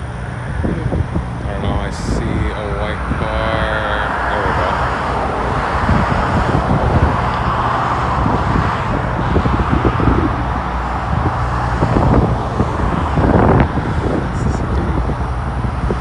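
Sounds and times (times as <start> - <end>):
road traffic noise: 0.0 - 16.0
wind buffeting microphone: 0.0 - 16.0.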